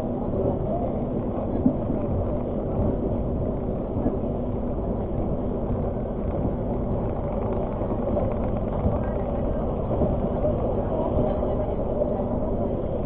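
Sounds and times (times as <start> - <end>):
faint steady hum: 0.0 - 13.0
passenger train rumbling: 0.0 - 13.0.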